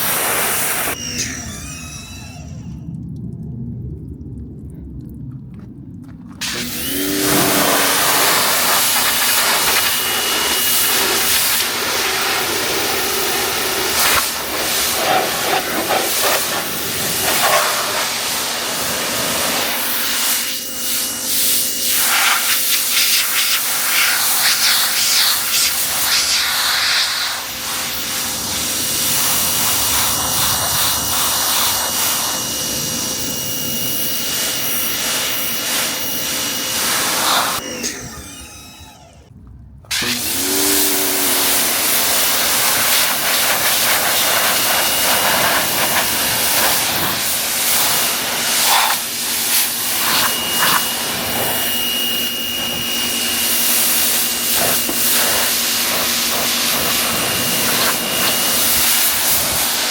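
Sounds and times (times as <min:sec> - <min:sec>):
pressure washer spraying water: 0:00.0 - 0:01.6, 0:06.4 - 0:37.7, 0:39.9 - 0:59.9.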